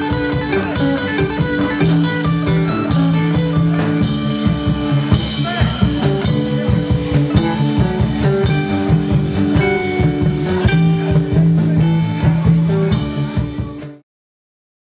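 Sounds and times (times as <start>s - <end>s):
live rock band playing: 0.0s - 14.0s
rapid drum hits: 0.0s - 14.0s.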